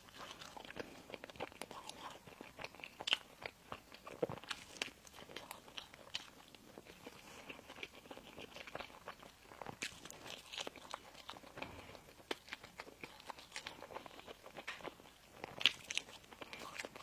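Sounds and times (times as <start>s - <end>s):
crisp crunches of pastry: 0.0s - 17.0s
wet chewing clicks: 0.0s - 17.0s.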